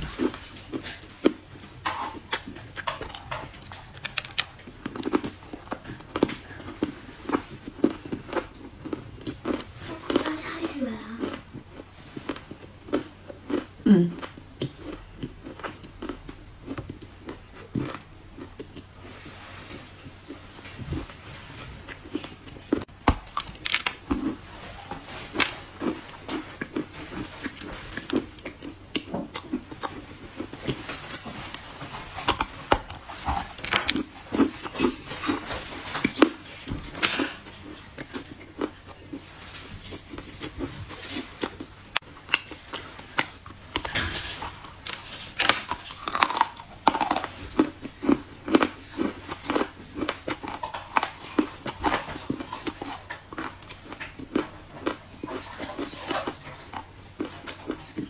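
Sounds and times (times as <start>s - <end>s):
crunchy food being chewed: 0.0s - 58.0s.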